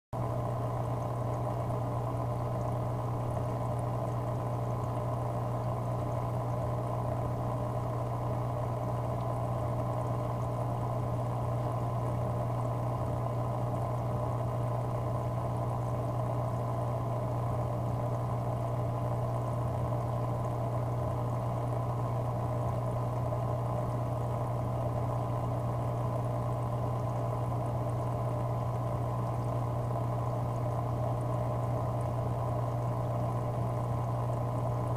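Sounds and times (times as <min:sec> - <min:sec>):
aquarium equipment humming: 0:00.2 - 0:34.9.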